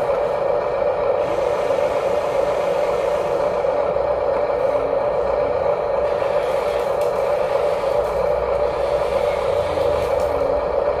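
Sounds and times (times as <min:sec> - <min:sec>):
small electric motors whirring: 0:01.2 - 0:10.6.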